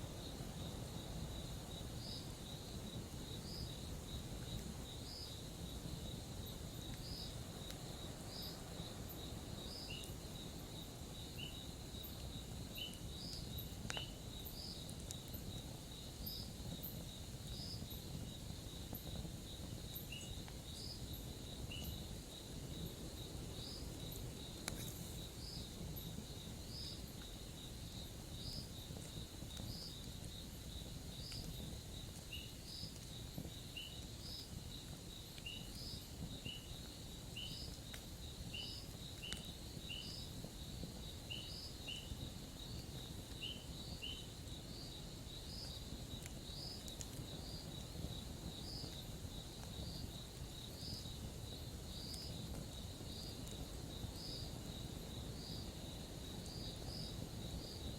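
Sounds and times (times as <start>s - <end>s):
campfire crackling: 0.0s - 57.9s
crickets trilling: 0.0s - 57.9s.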